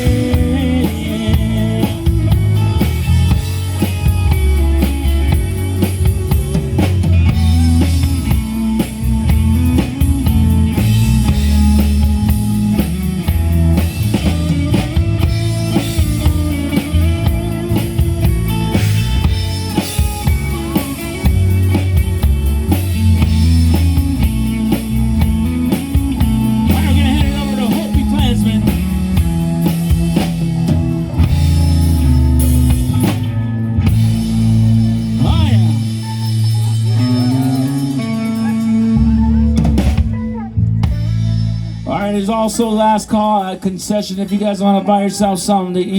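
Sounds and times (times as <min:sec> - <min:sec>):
guitar bending pitch: 0:00.0 - 0:41.8
rock band playing: 0:00.0 - 0:43.6.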